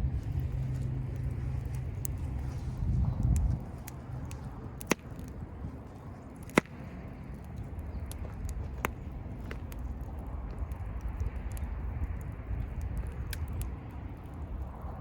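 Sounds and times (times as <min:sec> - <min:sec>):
low steady rumble: 0:00.0 - 0:15.0
wood fire crackling and popping: 0:00.0 - 0:15.0.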